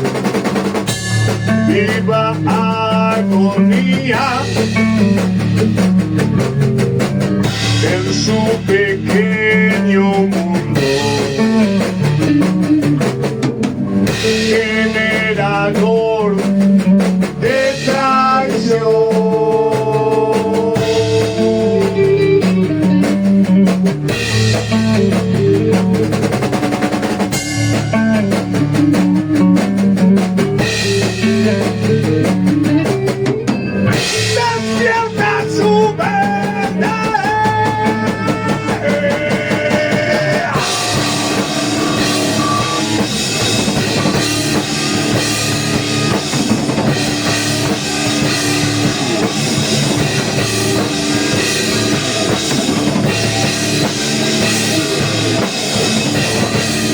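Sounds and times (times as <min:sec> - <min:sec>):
bass guitar: 0:00.0 - 0:56.9
drum kit: 0:00.0 - 0:56.9
electric guitars: 0:00.0 - 0:56.9.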